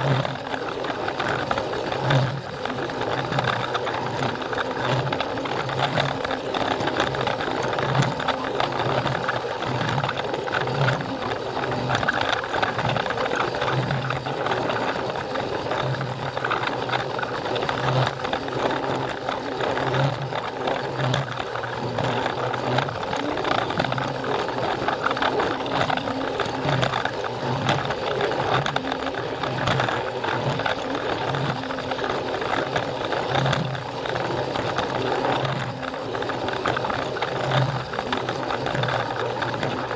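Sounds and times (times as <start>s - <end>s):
small clicks: 0.0s - 39.9s
toy train motor whirring: 0.0s - 39.9s.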